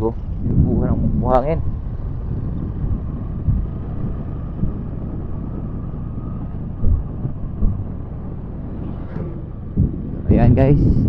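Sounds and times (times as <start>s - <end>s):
motorcycle running: 0.0s - 10.7s
wind buffeting microphone: 0.0s - 11.0s.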